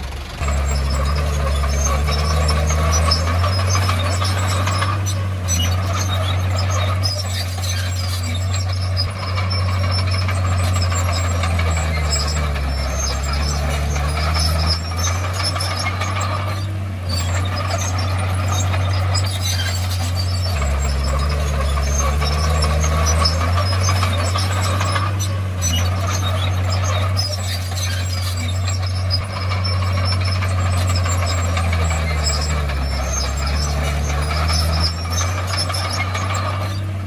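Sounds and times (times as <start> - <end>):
bulldozer diesel engine running: 0.0 - 37.0
faint squeaks and clinks: 0.4 - 36.9.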